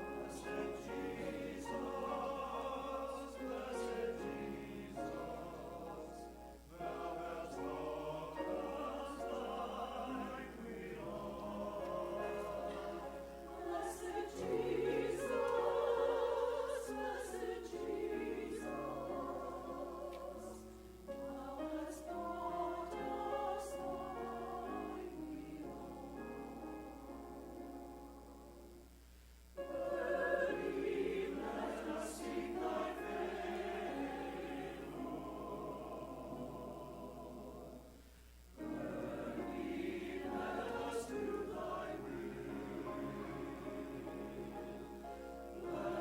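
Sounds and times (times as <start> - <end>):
choir singing held notes: 0.0 - 28.6, 29.6 - 46.0.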